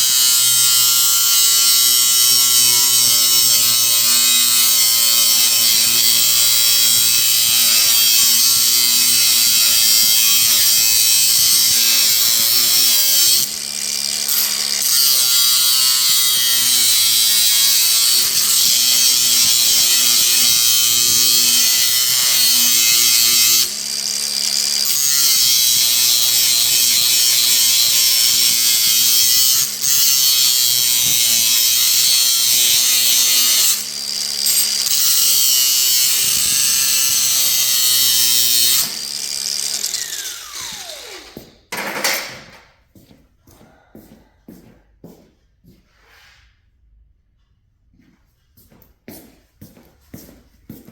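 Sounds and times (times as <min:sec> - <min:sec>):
angle grinder grinding metal: 0:00.0 - 0:42.6.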